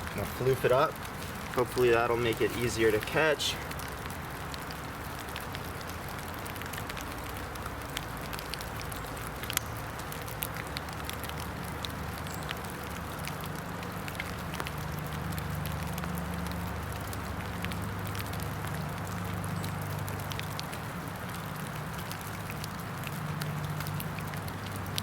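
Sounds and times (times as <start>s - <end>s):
rain hiss in woods: 0.0s - 25.0s
sharp ticks of drips: 0.0s - 25.0s.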